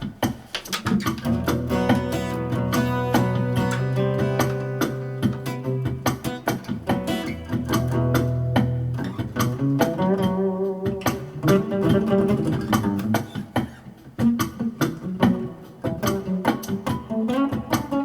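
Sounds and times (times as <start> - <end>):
plucked guitar: 0.0 - 18.0.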